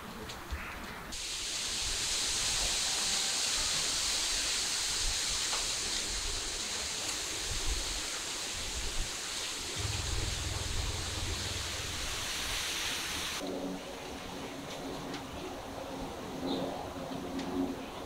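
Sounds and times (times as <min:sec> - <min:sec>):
steady outdoor hiss: 0:00.0 - 0:14.7.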